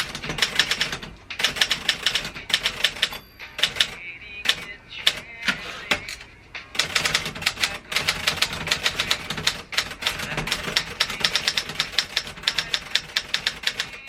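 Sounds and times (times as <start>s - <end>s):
typewriter keystrikes: 0.0s - 14.0s.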